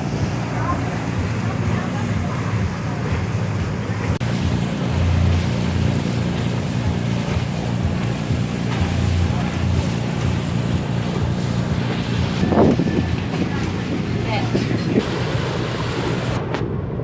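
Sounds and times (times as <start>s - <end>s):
boat engine rumbling: 0.0s - 17.0s
wind noise on microphone: 0.0s - 17.0s.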